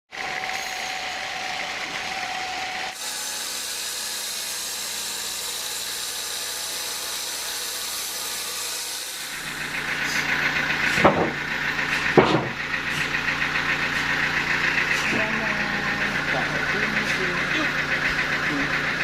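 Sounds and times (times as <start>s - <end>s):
sawmill saw running: 0.1s - 19.0s.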